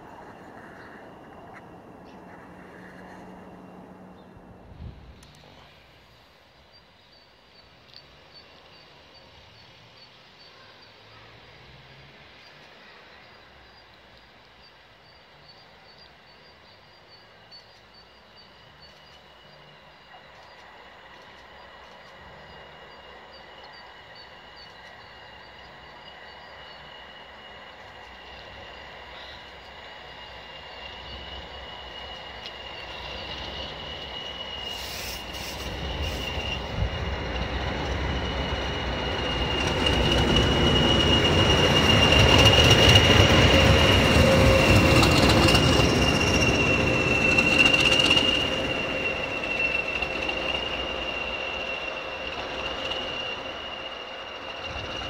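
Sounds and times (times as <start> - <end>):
diesel locomotive passing: 0.0 - 55.0.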